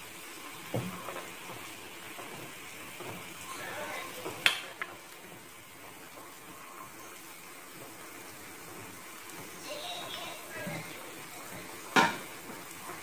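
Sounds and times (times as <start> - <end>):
soup boiling in a pot: 0.0 - 13.0.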